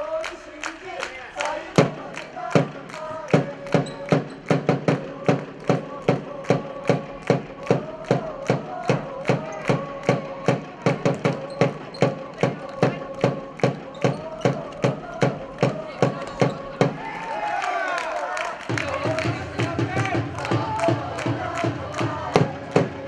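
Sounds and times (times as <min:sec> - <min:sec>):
rhythmic spectator beats: 0:00.0 - 0:17.1, 0:18.6 - 0:23.0
crowd chanting in unison: 0:00.0 - 0:23.0.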